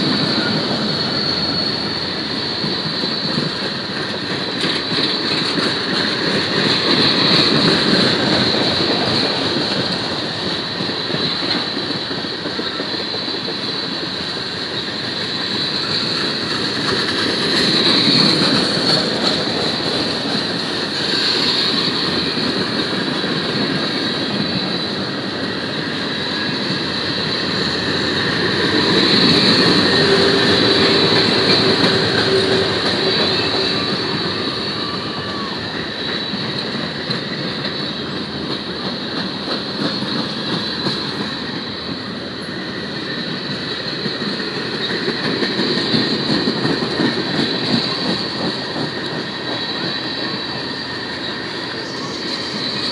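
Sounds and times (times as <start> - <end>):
freight train rumbling past: 0.0 - 52.9
high ringing of train wheels: 0.0 - 52.9.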